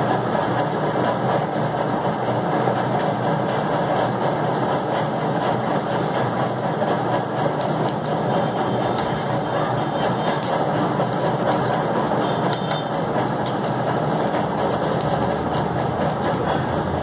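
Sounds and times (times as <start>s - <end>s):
mechanical running noise: 0.0s - 17.0s.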